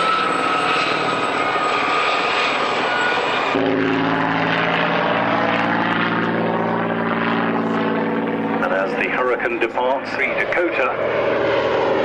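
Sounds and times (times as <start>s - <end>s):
aircraft engine rush with whine: 0.0s - 12.0s
propeller aircraft engine drone: 0.0s - 12.0s.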